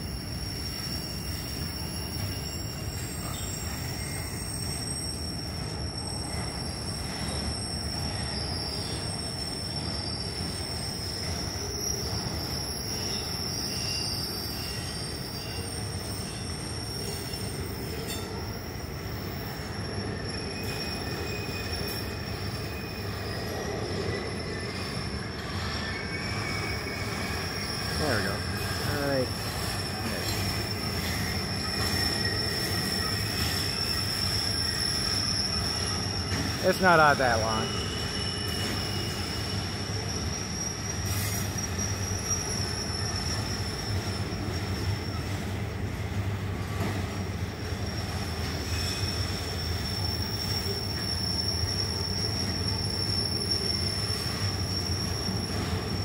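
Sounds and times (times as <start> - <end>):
high-pitched wheel squeal: 0.0 - 45.6, 47.6 - 56.0
steel wheels rumbling on rails: 0.0 - 56.0.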